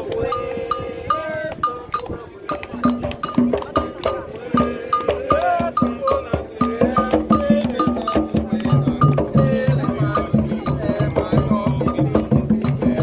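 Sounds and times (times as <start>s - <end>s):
hand drums: 0.0s - 13.0s
voices singing: 0.0s - 13.0s
metal bell beating: 0.2s - 13.0s.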